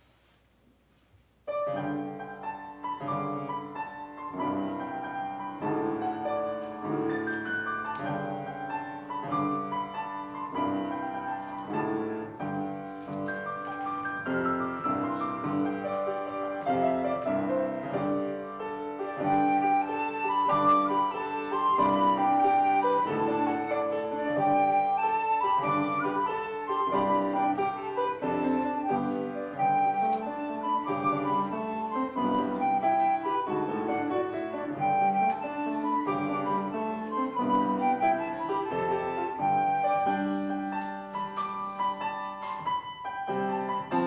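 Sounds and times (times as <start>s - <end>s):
slow piano music: 1.4s - 44.0s.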